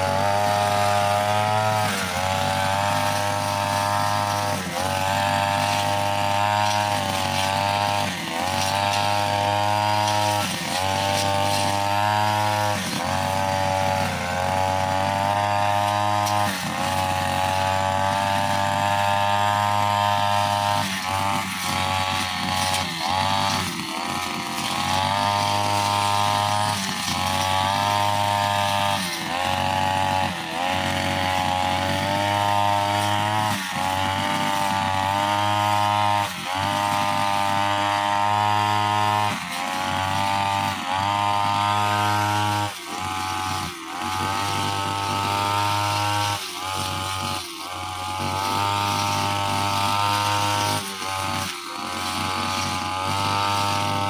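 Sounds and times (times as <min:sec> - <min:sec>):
brushcutter engine cutting grass: 0:00.0 - 0:54.0.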